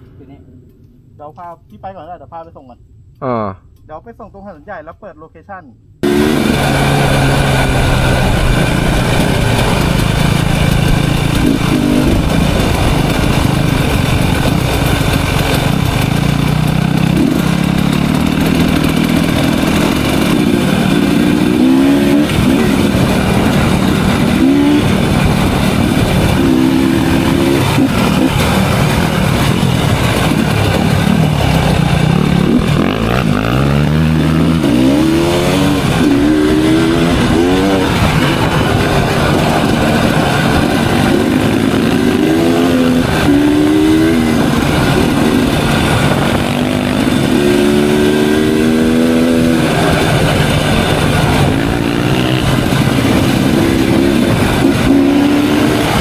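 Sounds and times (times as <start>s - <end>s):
motorcycle engine revving: 6.0s - 56.0s.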